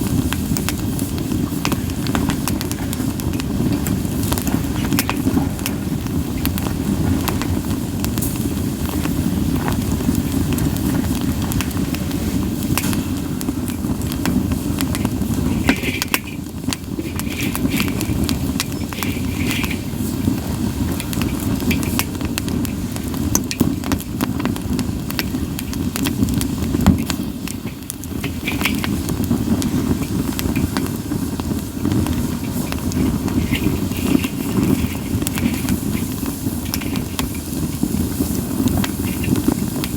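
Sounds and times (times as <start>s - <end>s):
campfire flame rush: 0.0s - 39.9s
wood crackling and popping: 0.0s - 39.9s
wood hissing: 0.0s - 39.9s.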